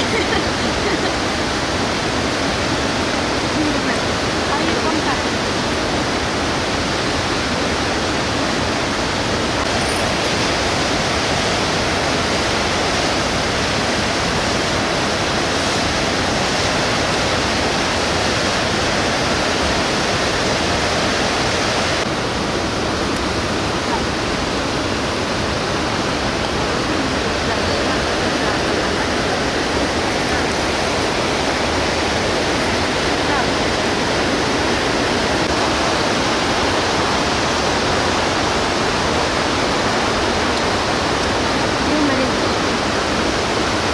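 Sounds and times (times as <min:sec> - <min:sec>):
whitewater river rapids rushing: 0:00.0 - 0:43.9.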